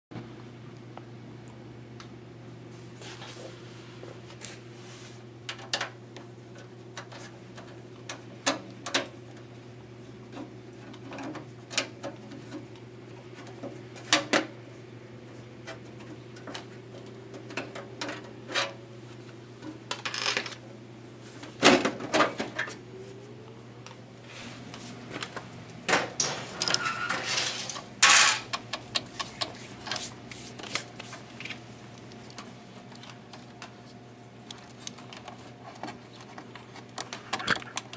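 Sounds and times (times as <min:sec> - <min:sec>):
steady low hum: 0:00.2 - 0:37.9.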